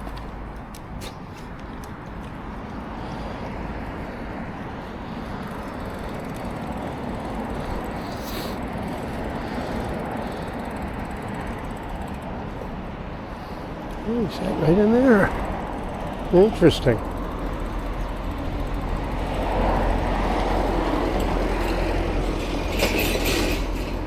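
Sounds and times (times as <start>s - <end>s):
vehicle and road noise: 0.0s - 24.0s.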